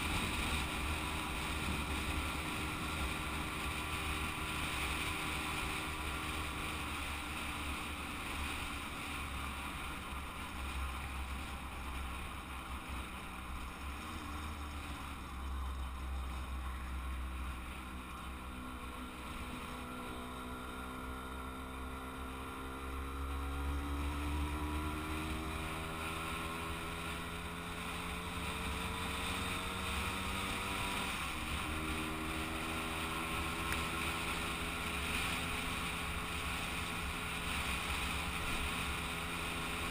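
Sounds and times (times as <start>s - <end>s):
moped engine running: 0.0s - 39.9s
wind rumbling on microphone: 0.0s - 39.9s.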